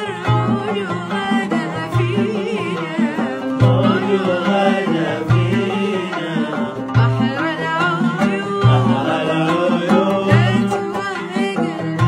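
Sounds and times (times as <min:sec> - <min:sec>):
boy singing: 0:00.0 - 0:12.0
plucked oud: 0:00.0 - 0:12.0
qanun: 0:00.0 - 0:12.0.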